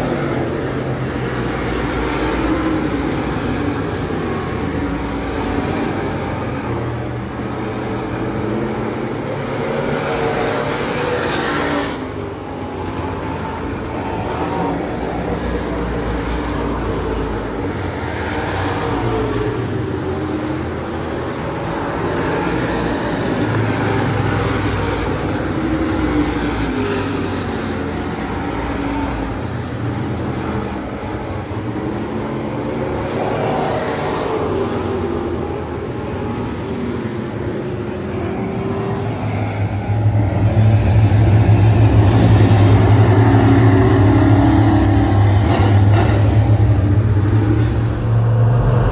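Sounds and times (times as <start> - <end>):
race car engines: 0.0 - 48.9.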